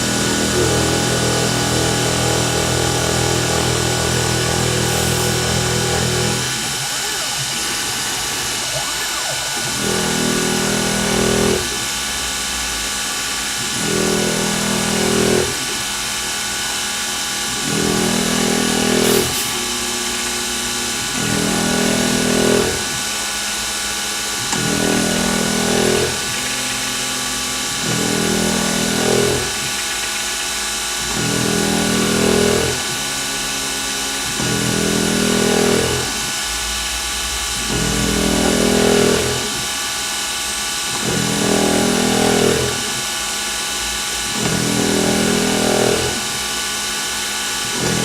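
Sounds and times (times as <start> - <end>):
lower motor hum: 0.0 - 40.1
milling machine high whine: 0.0 - 48.0.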